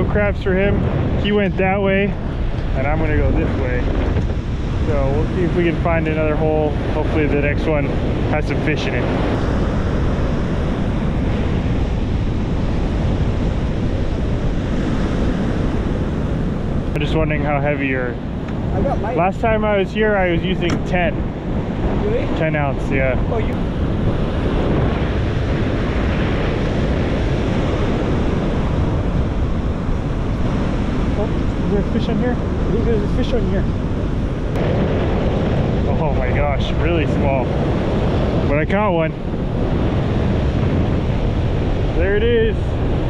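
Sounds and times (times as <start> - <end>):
surf breaking: 0.0 - 43.0
wind rushing over microphone: 0.0 - 43.0.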